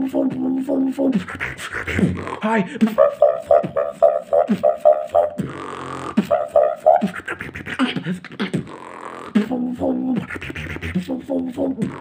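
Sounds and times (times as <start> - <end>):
beatboxing: 0.0 - 12.0.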